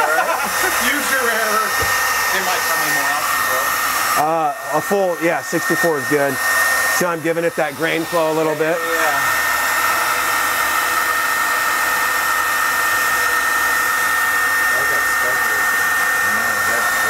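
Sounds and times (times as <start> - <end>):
heat gun blowing with whine: 0.0 - 17.0.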